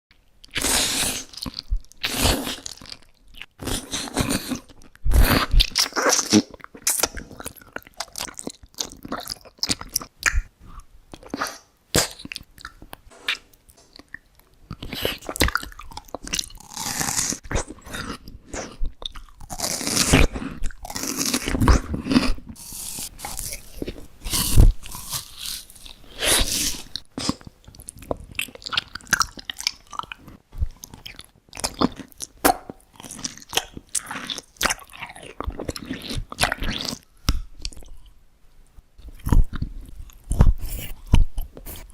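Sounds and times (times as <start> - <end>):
person chewing crunchy food: 0.4 - 38.2, 39.0 - 41.9.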